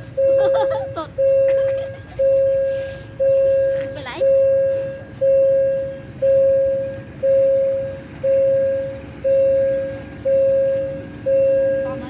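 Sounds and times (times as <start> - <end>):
railway warning bell ringing: 0.0 - 12.0.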